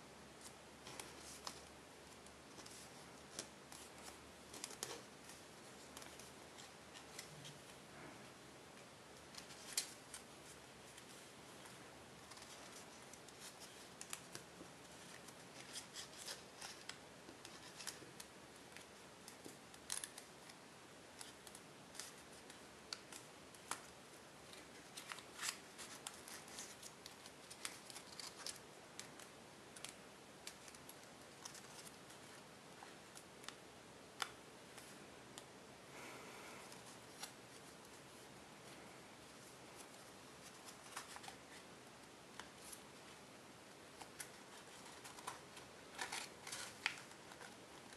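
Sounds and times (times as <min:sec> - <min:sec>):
quiet hiss: 0:00.0 - 0:47.9.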